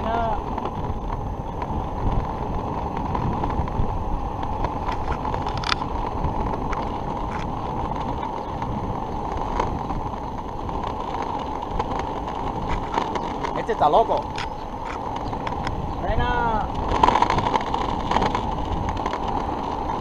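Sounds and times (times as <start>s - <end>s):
wheels rolling on asphalt: 0.0s - 20.0s
wind on microphone: 0.0s - 20.0s.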